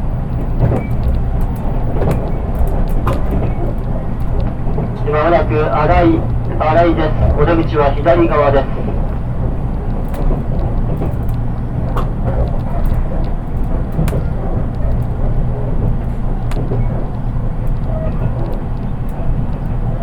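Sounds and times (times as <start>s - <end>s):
train wheels rumbling on track: 0.0s - 20.0s
sharp clicks and knocks: 0.4s - 19.9s.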